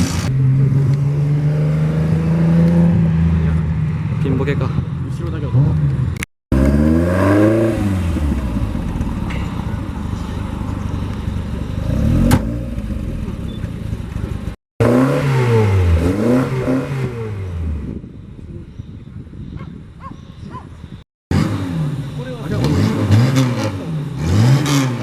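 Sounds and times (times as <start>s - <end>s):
car engine revving: 0.0s - 18.1s, 21.3s - 25.0s.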